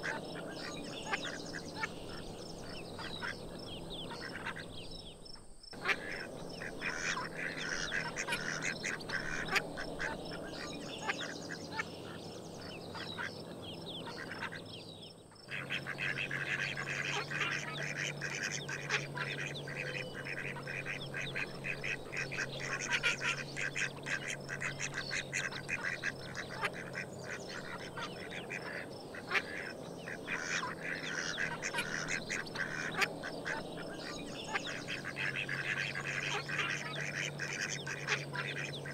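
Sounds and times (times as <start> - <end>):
ducks quacking: 0.0 - 4.8, 5.8 - 14.7, 15.4 - 38.9.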